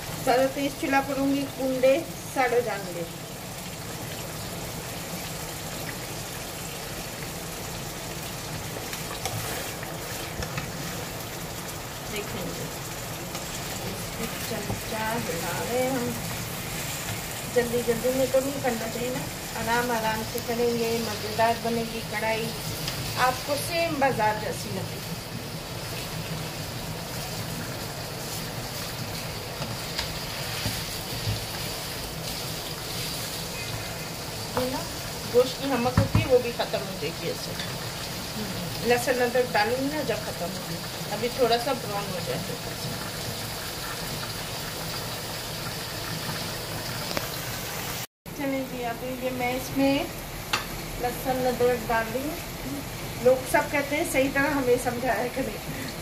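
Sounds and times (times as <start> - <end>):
meat sizzling in oil: 0.0 - 56.0.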